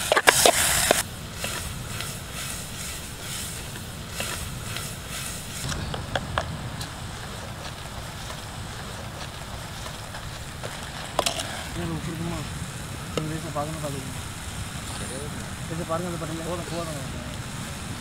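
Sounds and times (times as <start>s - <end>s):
wind buffeting microphone: 0.6s - 18.0s.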